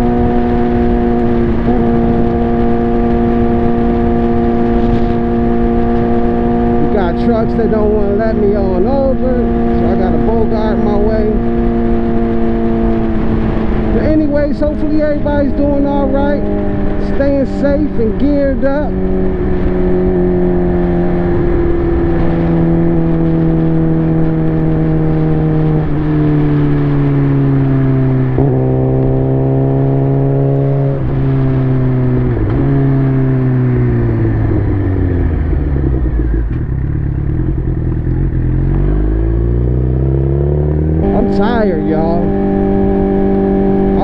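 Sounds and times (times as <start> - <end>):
motorcycle engine: 0.0 - 44.0
wind rush: 0.0 - 44.0.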